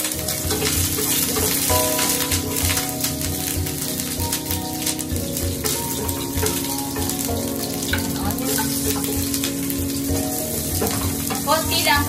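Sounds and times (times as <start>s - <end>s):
background music with beat: 0.0s - 12.0s
onion sizzling in hot oil: 0.0s - 12.0s
wooden spatula stirring in pan: 0.0s - 12.0s.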